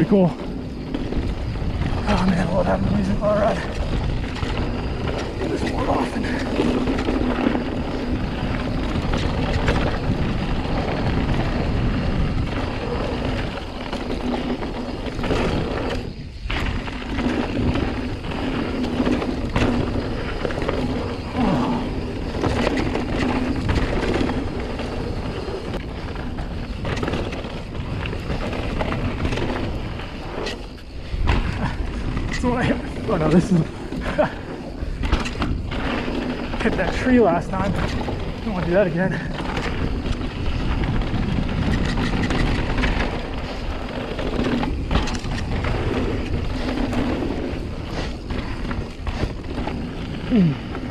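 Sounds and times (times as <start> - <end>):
bike rattles and knocks: 0.0 - 50.9
tyres crunching on gravel: 0.0 - 50.9
wind on microphone: 0.0 - 50.9.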